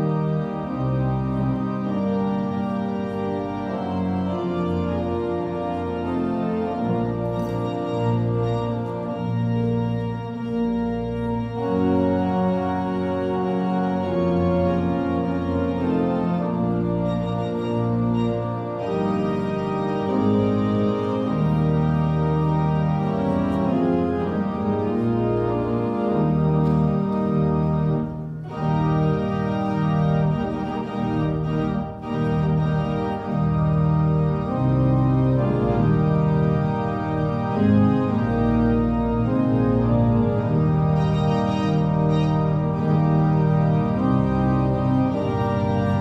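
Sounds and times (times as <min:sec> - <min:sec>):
organ playing held chords: 0:00.0 - 0:46.0.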